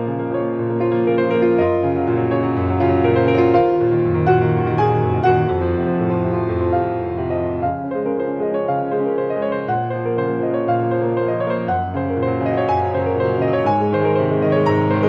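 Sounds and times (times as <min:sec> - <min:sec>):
piano background music: 0:00.0 - 0:15.0.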